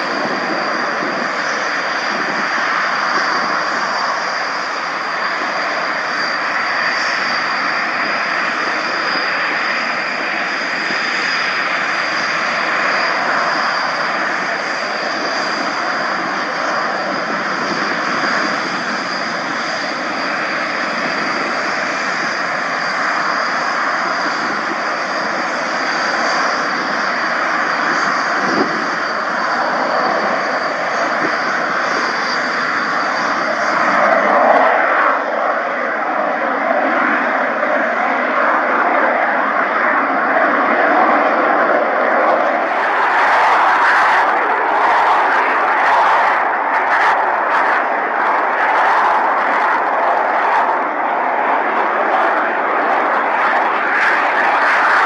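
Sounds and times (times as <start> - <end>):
aircraft engine running: 0.0 - 55.0.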